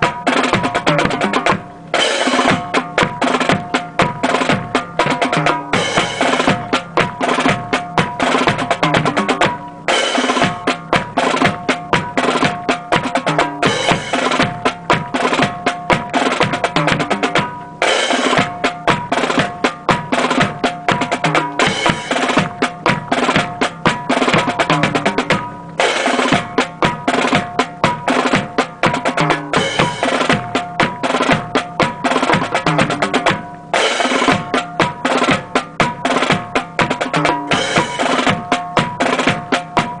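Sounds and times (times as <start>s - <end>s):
marching snare and bass drums: 0.0s - 40.0s.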